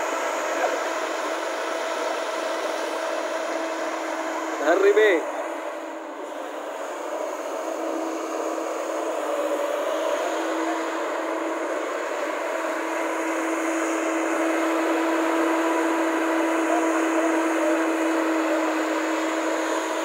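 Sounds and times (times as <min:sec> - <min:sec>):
excavator engine and hydraulics droning: 0:00.0 - 0:20.0.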